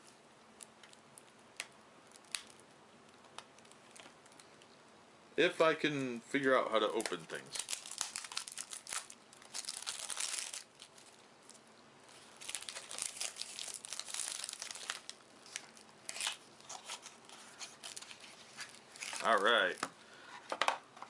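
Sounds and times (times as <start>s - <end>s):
plastic wrap tearing and crinkling: 0.6s - 4.6s, 6.8s - 19.8s.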